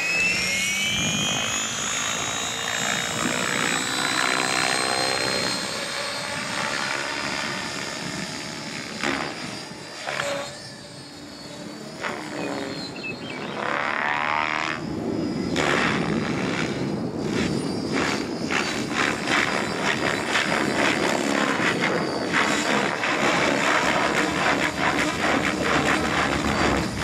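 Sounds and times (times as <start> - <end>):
helicopter rotor whooshing: 0.0 - 27.0.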